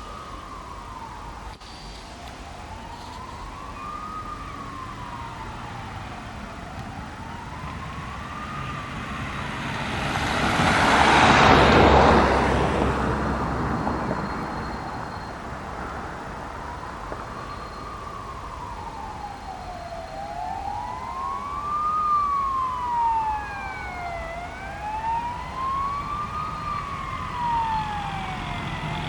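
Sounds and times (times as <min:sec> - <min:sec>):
emergency siren wailing: 0:00.0 - 0:29.0
vehicle passing close: 0:04.0 - 0:29.0.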